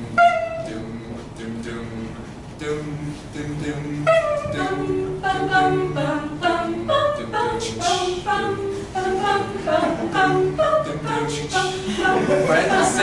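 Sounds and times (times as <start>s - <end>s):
a cappella group singing in harmony: 0.0s - 13.0s.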